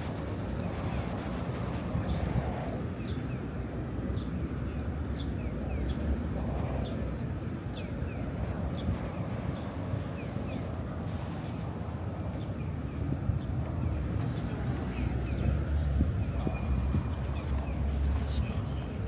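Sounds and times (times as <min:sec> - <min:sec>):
city traffic hum: 0:00.0 - 0:19.0.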